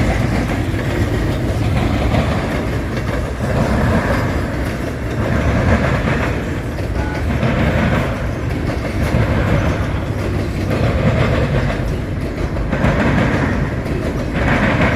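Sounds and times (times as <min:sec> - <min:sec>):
freight cars rattling: 0:00.0 - 0:14.9
steel wheels rumbling on rails: 0:00.0 - 0:14.9.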